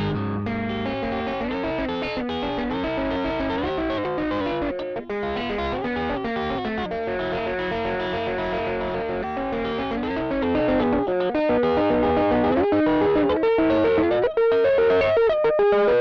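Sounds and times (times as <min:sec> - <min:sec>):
distorted electric guitar riff: 0:00.0 - 0:16.0.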